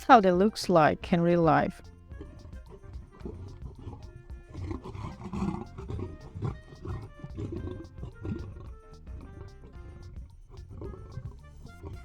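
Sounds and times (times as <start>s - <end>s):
music with steady beat: 0.0s - 12.0s
big cat roaring and growling: 2.2s - 12.0s.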